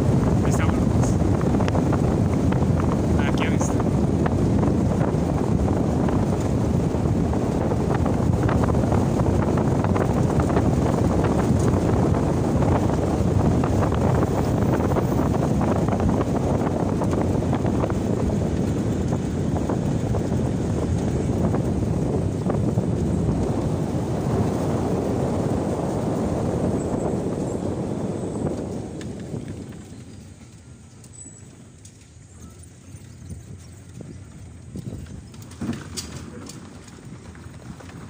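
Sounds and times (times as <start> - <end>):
car road rumble: 0.0 - 38.0
wind buffeting microphone: 0.0 - 38.0.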